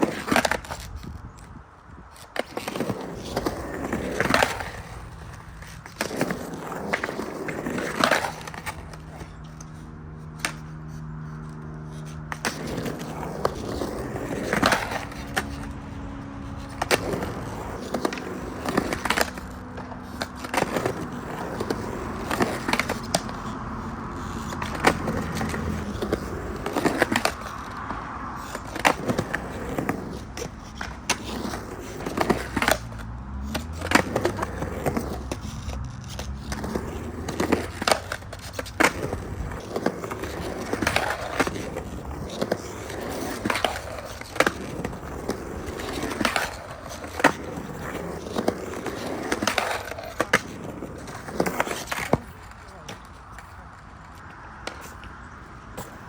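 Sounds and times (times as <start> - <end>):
skateboard trucks clacking on coping: 0.0 - 1.5, 2.1 - 56.0
skateboard wheels rolling on concrete: 0.0 - 56.0.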